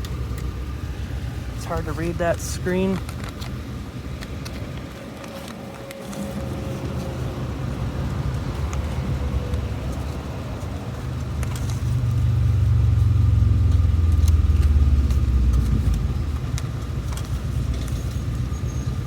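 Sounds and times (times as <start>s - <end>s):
low vehicle engine rumble: 0.0s - 19.0s.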